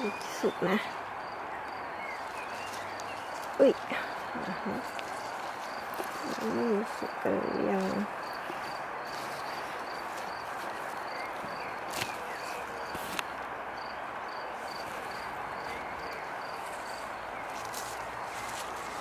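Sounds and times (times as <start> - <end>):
cricket chirping: 0.0 - 13.0, 13.7 - 19.0.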